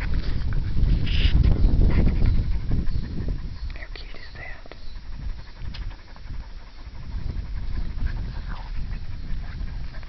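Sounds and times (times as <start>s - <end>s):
dogs panting: 0.0s - 10.0s
uneven low rumble: 0.0s - 10.0s.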